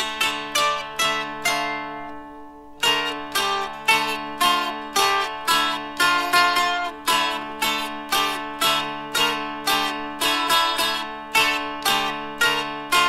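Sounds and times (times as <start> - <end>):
dulcimer melody: 0.0 - 13.0.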